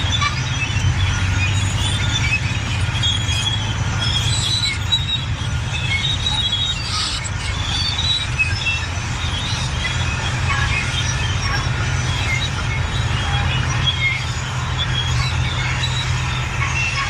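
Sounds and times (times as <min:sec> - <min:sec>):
bulldozer diesel engine running: 0:00.0 - 0:17.0
metallic squeaks from steel tracks: 0:00.0 - 0:17.0.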